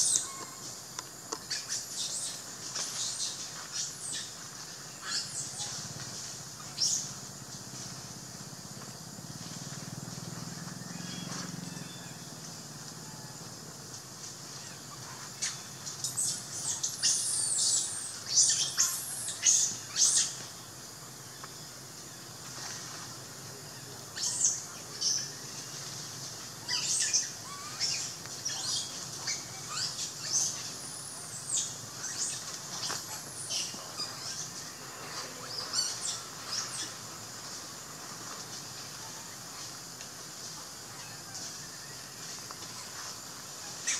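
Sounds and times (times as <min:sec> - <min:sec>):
steady high hiss: 0:00.0 - 0:43.9.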